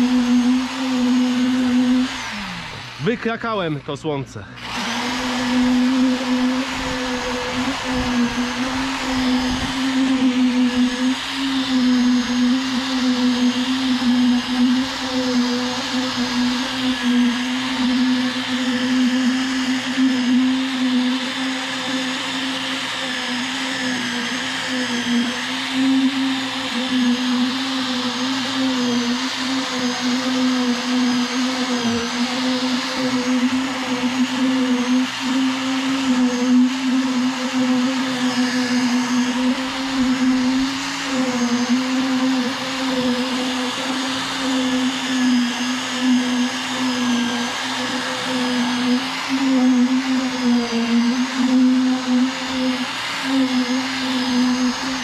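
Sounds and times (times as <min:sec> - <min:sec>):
electric motor humming: 0:00.0 - 0:55.0.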